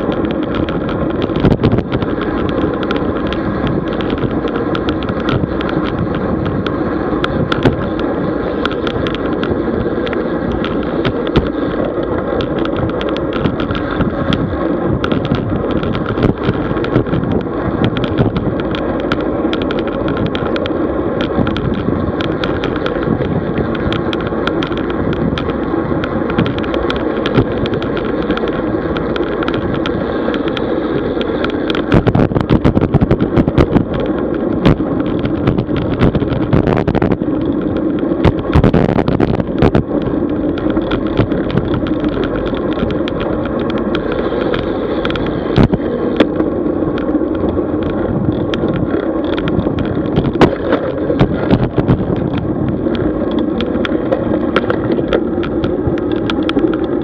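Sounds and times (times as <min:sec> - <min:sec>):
bicycle rattles and clicks: 0:00.0 - 0:57.0
bicycle tyre and wind noise: 0:00.0 - 0:57.0.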